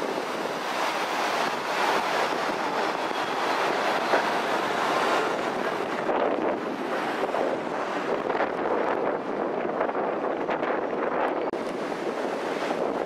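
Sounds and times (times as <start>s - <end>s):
whitewater rapids: 0.0s - 10.0s, 11.1s - 13.0s
train rolling along track: 0.0s - 11.8s
wind on microphone: 0.0s - 13.0s.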